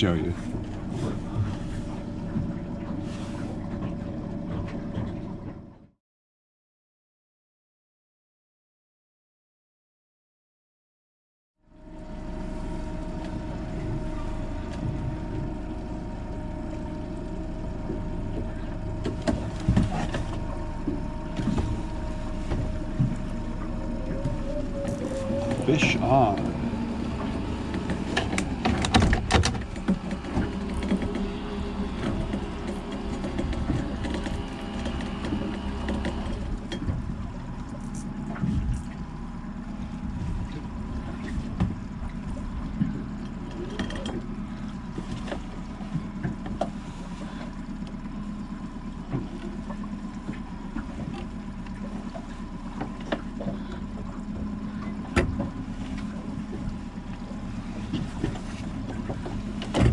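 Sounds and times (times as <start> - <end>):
outboard motor running: 0.0 - 6.0, 11.6 - 59.9.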